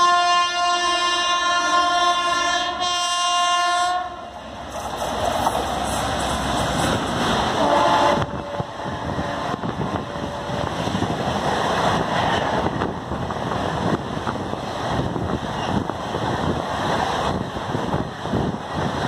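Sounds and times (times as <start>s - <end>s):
passenger train passing at speed: 0.0s - 19.0s.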